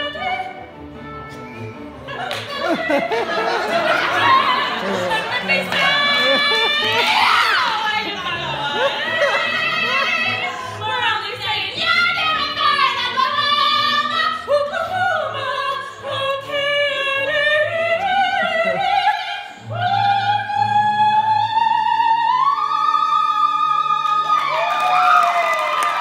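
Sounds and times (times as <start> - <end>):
musical accompaniment: 0.0 - 26.0
women singing operatic duet: 2.1 - 24.7.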